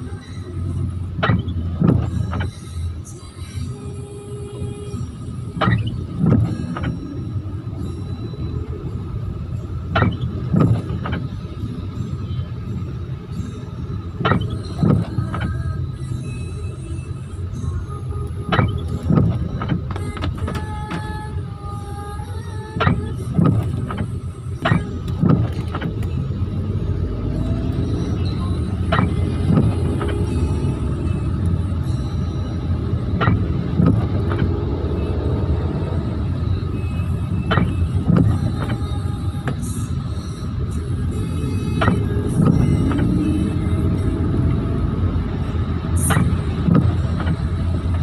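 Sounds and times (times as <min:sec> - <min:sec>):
car idling in traffic: 0:00.0 - 0:48.0
windshield wipers swishing: 0:00.0 - 0:48.0.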